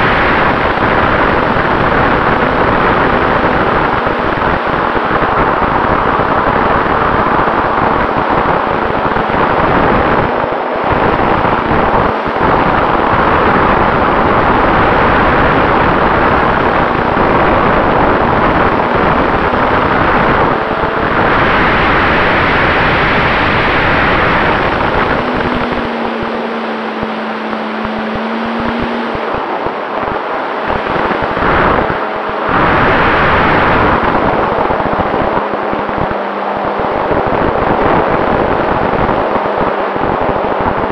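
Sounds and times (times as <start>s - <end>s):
propeller and motor drone: 0.0s - 40.9s
wind buffeting microphone: 0.0s - 40.9s.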